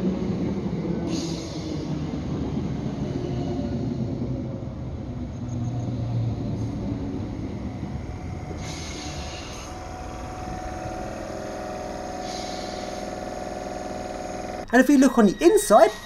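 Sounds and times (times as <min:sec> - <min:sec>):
train wheels rumbling on rails: 0:00.0 - 0:13.8.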